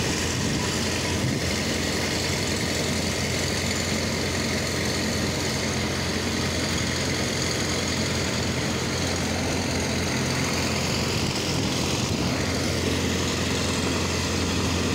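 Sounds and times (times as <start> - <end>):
passenger train running: 0.0 - 14.9.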